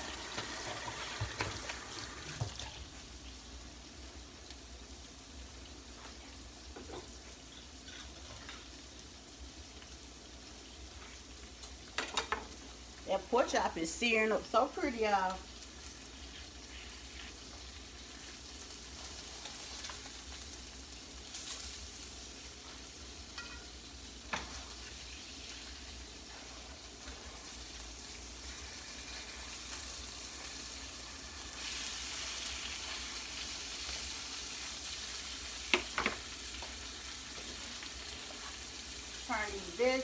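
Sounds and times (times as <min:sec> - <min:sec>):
meat sizzling in a skillet: 0:00.0 - 0:40.0.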